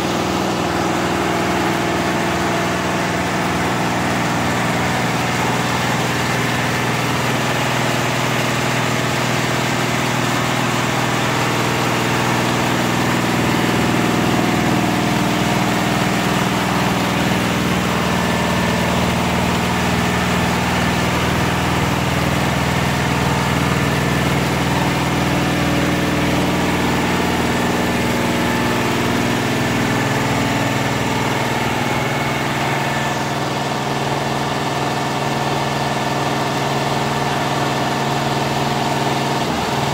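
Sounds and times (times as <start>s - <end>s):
embroidery machine humming and clattering: 0.0s - 39.9s.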